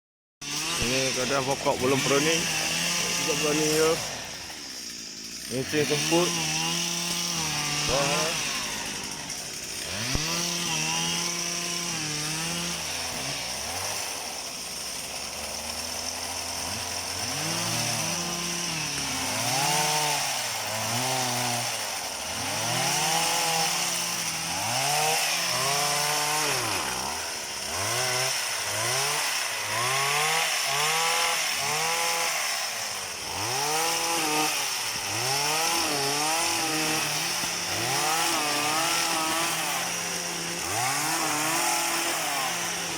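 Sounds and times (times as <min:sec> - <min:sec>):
small engine revving: 0:00.4 - 0:42.9.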